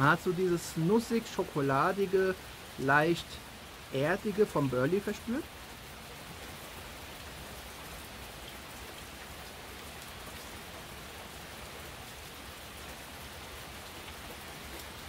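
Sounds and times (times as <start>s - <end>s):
rain patter: 0.0s - 15.0s.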